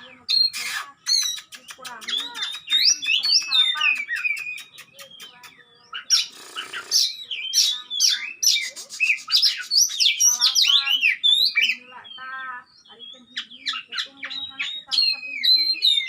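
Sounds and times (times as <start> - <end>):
songbird whistling: 0.0 - 16.0.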